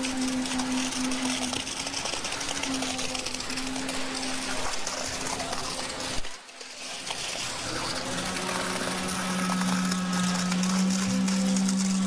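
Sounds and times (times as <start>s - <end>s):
concrete pump running: 0.0s - 12.0s
wet concrete pouring: 0.0s - 12.0s.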